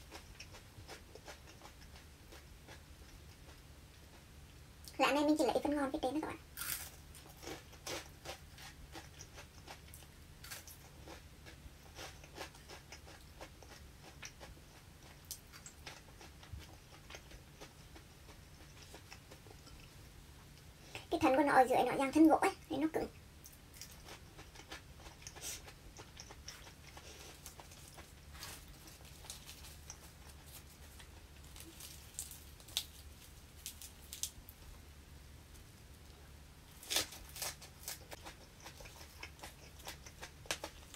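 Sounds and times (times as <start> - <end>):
herbs being chewed: 0.0 - 4.3, 6.6 - 20.7, 23.4 - 34.6, 36.7 - 40.9
steady low hum: 0.0 - 40.9.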